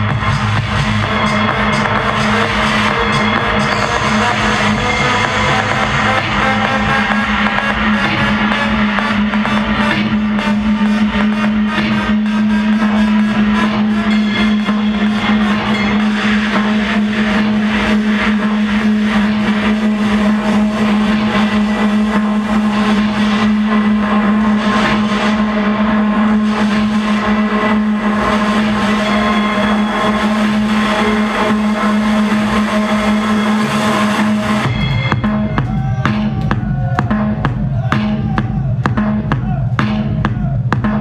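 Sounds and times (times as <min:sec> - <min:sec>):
buzzing synth drone: 0:00.0 - 0:35.6
techno drums: 0:00.0 - 0:41.0
techno music: 0:00.0 - 0:41.0.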